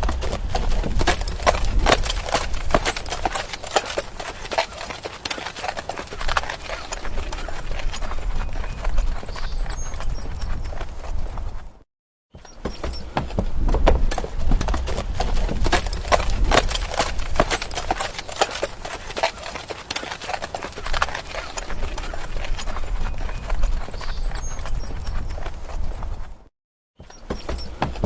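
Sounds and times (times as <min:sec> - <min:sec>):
horse hooves clip-clopping: 0:00.0 - 0:11.8, 0:12.4 - 0:28.0.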